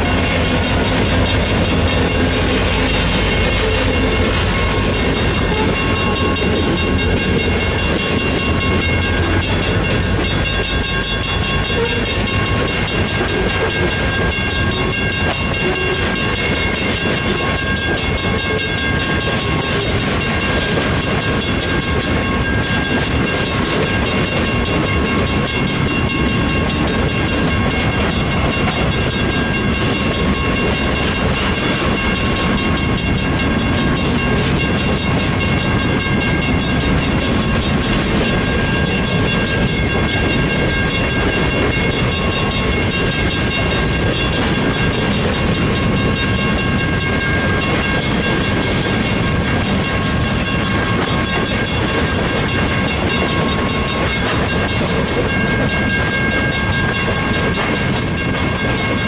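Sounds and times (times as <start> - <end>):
crossing warning bell clanging: 0.0 - 59.0
diesel locomotives passing: 0.0 - 59.0
freight cars clacking over rails: 0.0 - 59.0.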